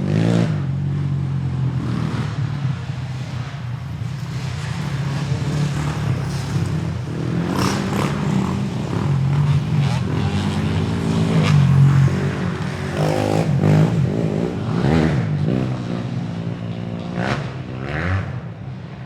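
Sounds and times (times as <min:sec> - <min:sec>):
motorcycle engine rumbling: 0:00.6 - 0:17.6.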